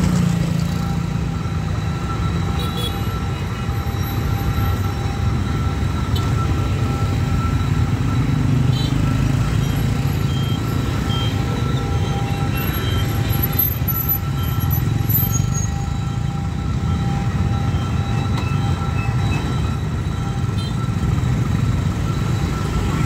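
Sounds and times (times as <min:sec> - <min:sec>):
motorbike and scooter engines: 0:00.0 - 0:23.0.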